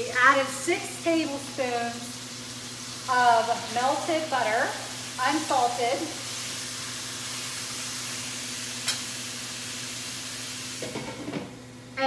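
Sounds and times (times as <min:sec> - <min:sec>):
chicken sizzling in a skillet: 0:00.0 - 0:11.4.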